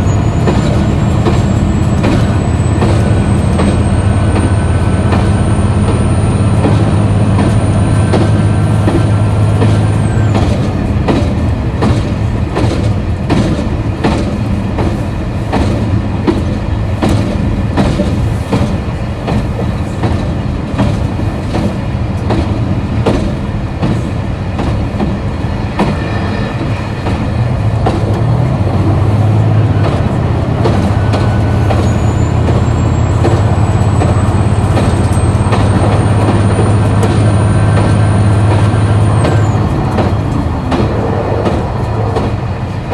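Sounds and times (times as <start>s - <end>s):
diesel railcar engine humming: 0.0s - 42.9s
wheels clicking over rail joints: 0.0s - 42.9s.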